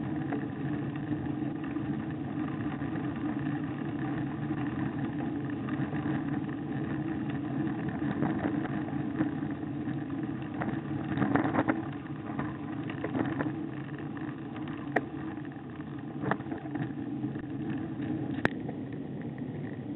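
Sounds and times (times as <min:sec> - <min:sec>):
bicycle tyre noise: 0:00.0 - 0:19.9
bike knocking and rattling over bumps: 0:00.0 - 0:19.9
wind noise: 0:00.0 - 0:19.9.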